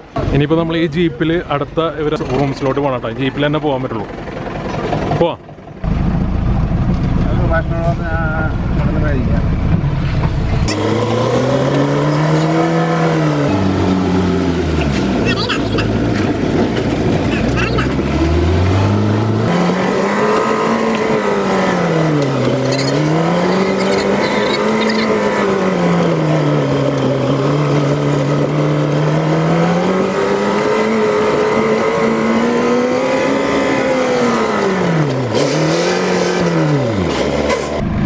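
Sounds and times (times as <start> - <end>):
engine pulling under load: 1.6 - 38.0.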